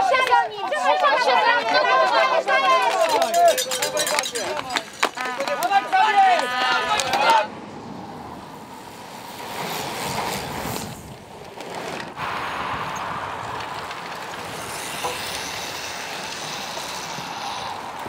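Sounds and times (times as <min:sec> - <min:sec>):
bicycles riding over grass and dirt: 0:00.1 - 0:07.5, 0:08.8 - 0:18.0.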